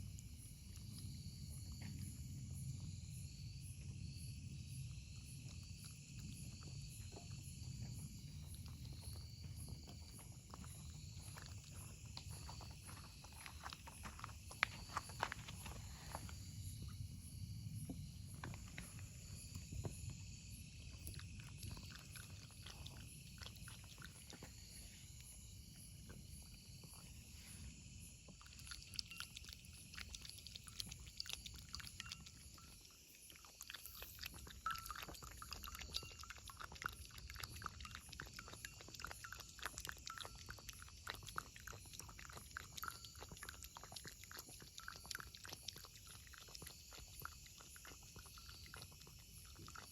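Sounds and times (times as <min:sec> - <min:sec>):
cats chewing and smacking: 0:00.0 - 0:03.0, 0:03.8 - 0:49.9.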